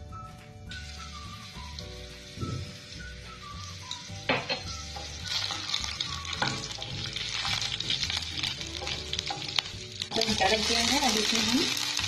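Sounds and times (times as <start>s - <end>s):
seeds sizzling in hot oil: 0.4s - 12.0s
spatula stirring in pan: 1.0s - 11.1s.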